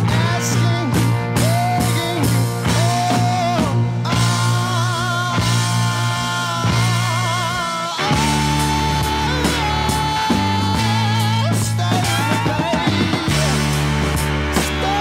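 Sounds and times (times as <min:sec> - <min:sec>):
rock band music: 0:00.0 - 0:15.0.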